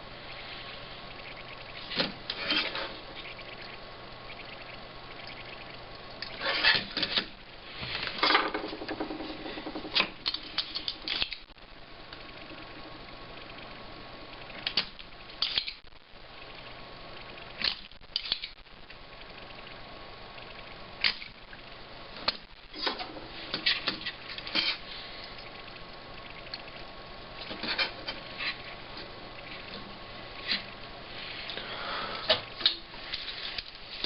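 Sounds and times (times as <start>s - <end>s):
background hiss: 0.0s - 34.0s.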